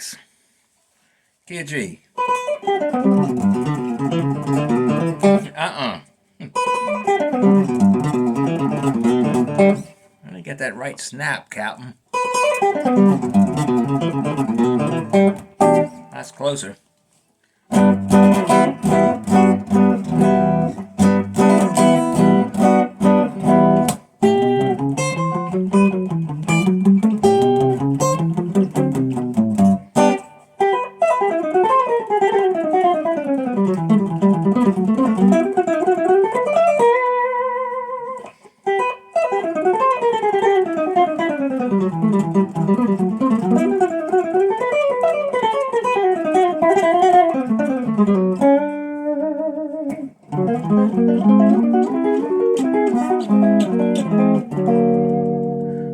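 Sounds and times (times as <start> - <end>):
electric guitar solo: 2.1 - 10.1, 12.1 - 16.6, 17.6 - 55.9.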